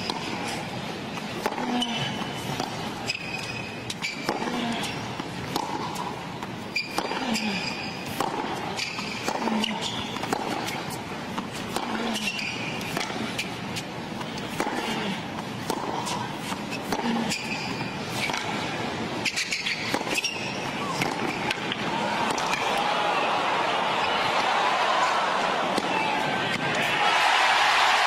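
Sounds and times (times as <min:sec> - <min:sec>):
tennis racket hitting ball: 0:00.0 - 0:22.8
crowd background: 0:00.0 - 0:28.0.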